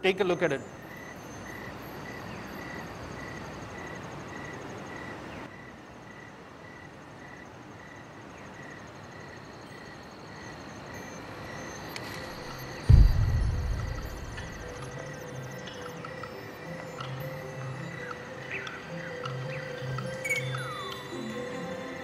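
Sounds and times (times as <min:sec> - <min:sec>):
soft insect chirping: 0:00.0 - 0:22.0
steady hiss: 0:00.1 - 0:22.0.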